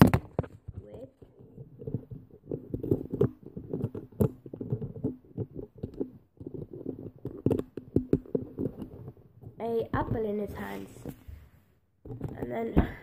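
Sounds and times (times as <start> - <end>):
plastic toy figures handled: 0.0 - 13.0.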